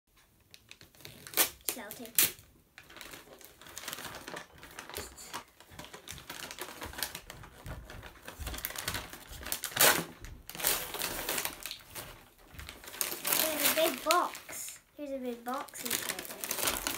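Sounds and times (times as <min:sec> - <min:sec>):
wrapping paper tearing and crinkling: 0:00.5 - 0:16.9.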